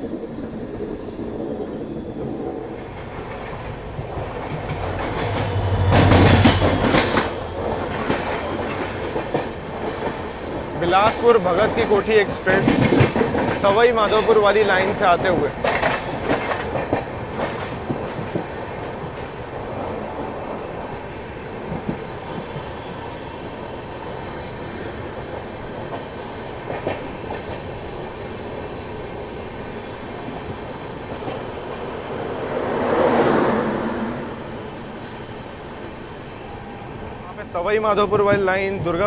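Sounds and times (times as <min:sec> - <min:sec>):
train wheel and rail rumble: 0:00.0 - 0:39.0.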